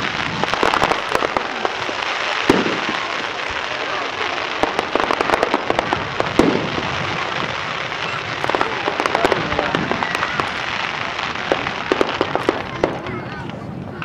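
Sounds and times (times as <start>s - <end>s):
fireworks cracks and pops: 0.0s - 14.0s
fireworks hissing and crackling: 0.0s - 14.0s
heavy firework bangs: 0.0s - 14.0s.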